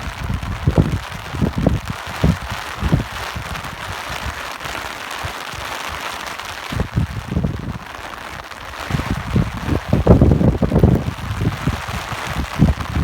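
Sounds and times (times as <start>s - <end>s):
steady rain hiss: 0.0s - 13.0s
wind blasts on microphone: 0.0s - 13.0s
wind gusting: 0.0s - 13.0s.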